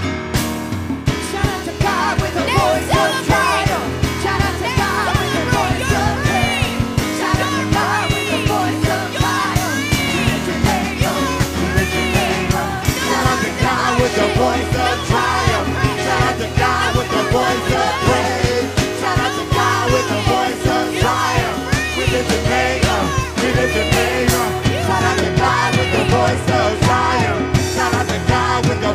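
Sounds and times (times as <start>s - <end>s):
drum kit beat: 0.0s - 28.9s
live band playing: 0.0s - 28.9s
people singing and calling out: 1.1s - 28.9s.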